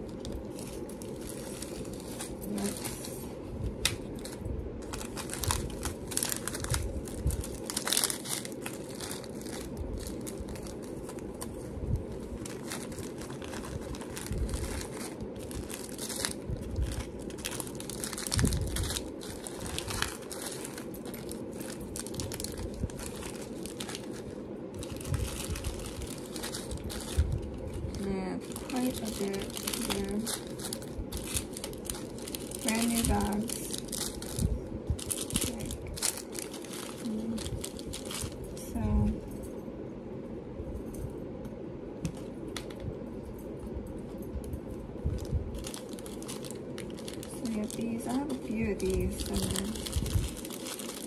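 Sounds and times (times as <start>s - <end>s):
plastic bags crinkling: 0.0s - 39.0s, 45.1s - 51.0s
low background hum: 0.0s - 51.0s.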